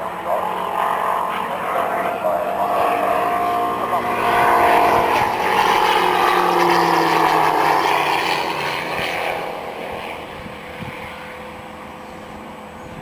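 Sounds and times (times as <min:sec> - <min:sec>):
model aircraft engine whine: 0:00.0 - 0:13.0.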